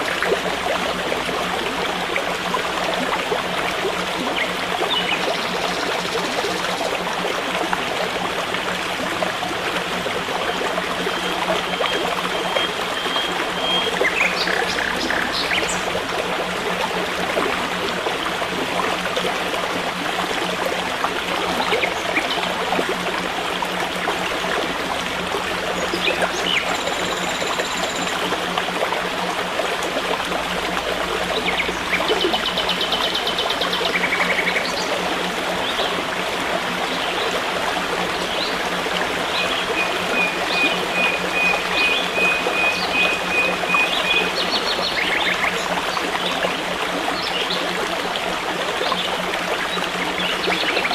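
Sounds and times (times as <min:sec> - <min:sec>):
stream running: 0:00.0 - 0:50.9.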